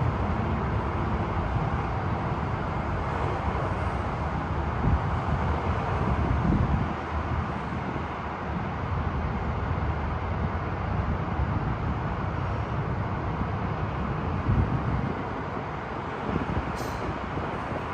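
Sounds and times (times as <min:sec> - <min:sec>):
distant freeway traffic hum: 0:00.0 - 0:17.9
wind buffeting microphone: 0:00.0 - 0:17.9.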